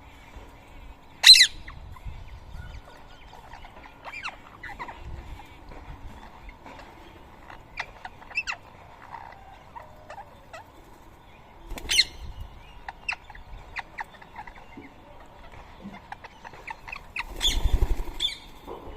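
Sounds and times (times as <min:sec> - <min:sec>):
birds chirping and calling: 0:00.0 - 0:18.9.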